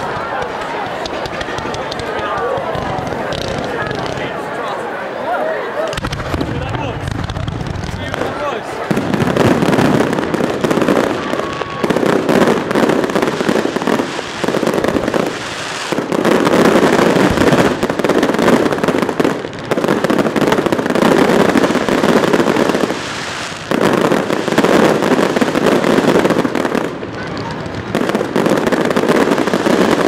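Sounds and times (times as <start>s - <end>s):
fireworks crackling: 0.0s - 4.8s, 5.9s - 30.0s.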